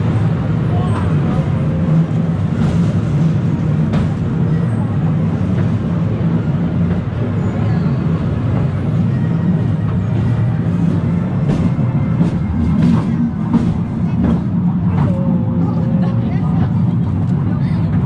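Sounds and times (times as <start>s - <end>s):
railway carriage rumbling on rails: 0.0s - 18.0s.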